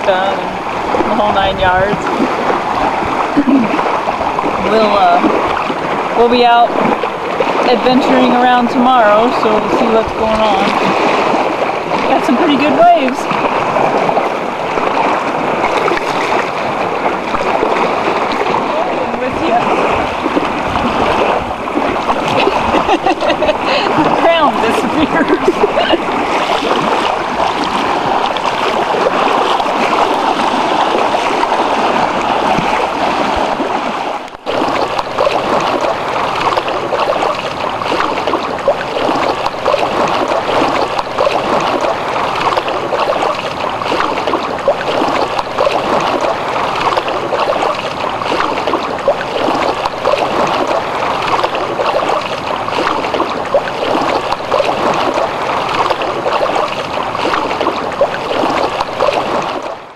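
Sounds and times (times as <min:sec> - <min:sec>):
waves lapping against rocky shore: 0:00.0 - 0:59.9.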